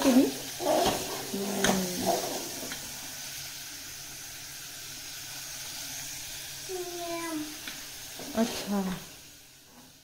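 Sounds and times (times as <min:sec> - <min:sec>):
spices frying in oil: 0:00.0 - 0:10.0.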